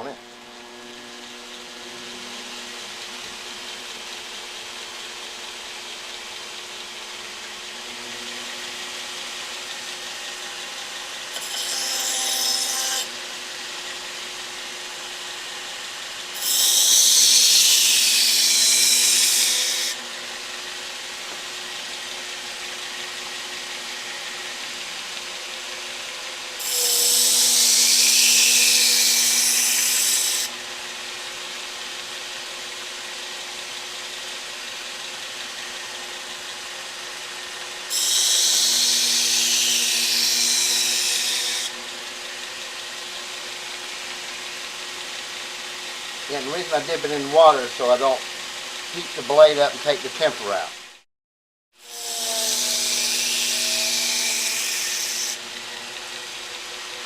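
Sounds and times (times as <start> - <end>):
belt grinder running: 0.9 - 50.7, 51.8 - 57.0.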